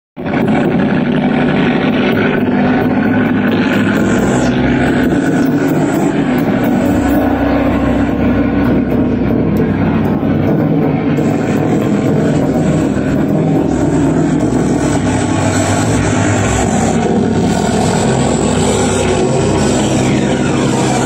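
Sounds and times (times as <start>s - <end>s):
distorted noise drone and hiss: 0.2s - 21.0s
steady low hum: 0.2s - 21.0s.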